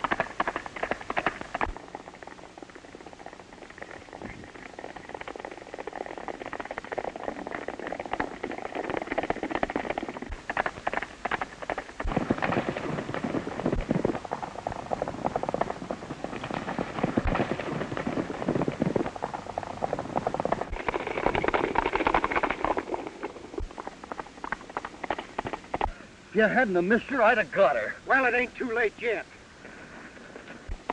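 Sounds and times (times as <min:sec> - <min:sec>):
horses galloping on dry ground: 0:00.0 - 0:30.9.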